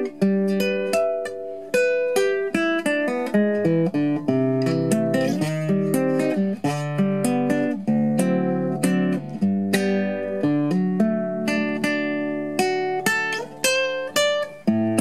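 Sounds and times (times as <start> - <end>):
classical guitar fingerstyle: 0.0 - 15.0.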